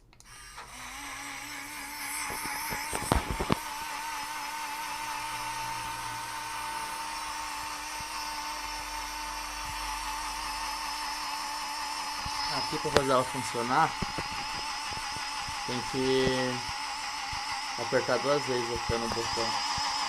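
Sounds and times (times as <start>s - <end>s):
blender motor whine: 0.0s - 20.0s.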